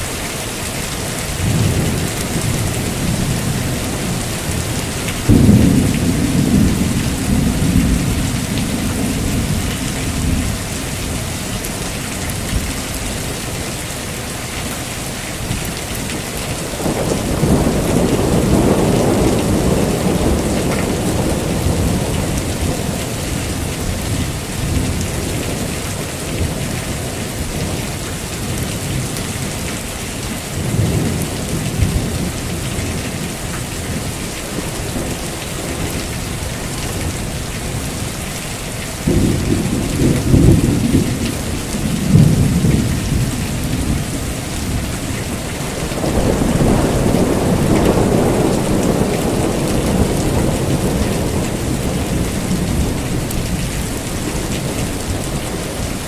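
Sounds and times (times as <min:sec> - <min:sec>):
heavy rain falling: 0:00.0 - 0:56.0
thunder rumbling: 0:01.1 - 0:13.8, 0:15.4 - 0:38.2, 0:39.0 - 0:56.0.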